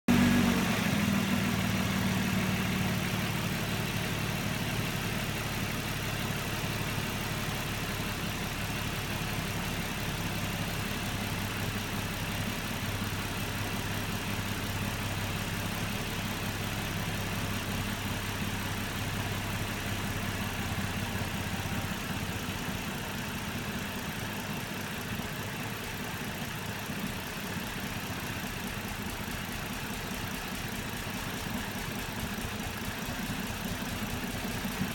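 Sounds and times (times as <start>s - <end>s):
car engine idling roughly: 0.1s - 34.9s.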